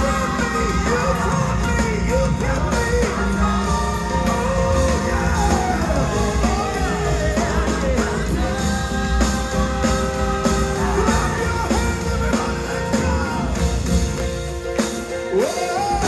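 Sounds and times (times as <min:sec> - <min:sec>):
band playing: 0:00.0 - 0:16.0
choir singing gospel: 0:00.0 - 0:16.0.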